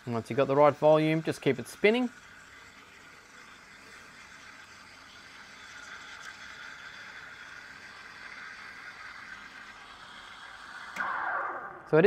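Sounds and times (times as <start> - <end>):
steam wand hissing in milk: 0.0 - 11.0.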